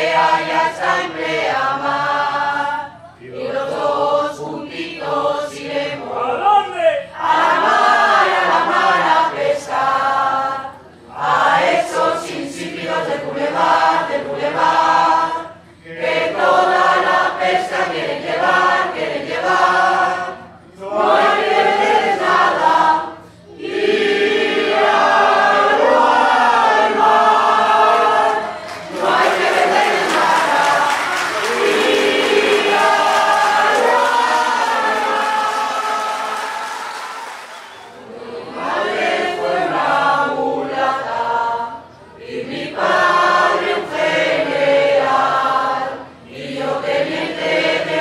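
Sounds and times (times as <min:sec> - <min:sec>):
mixed choir singing: 0:00.0 - 0:06.5, 0:07.1 - 0:48.0.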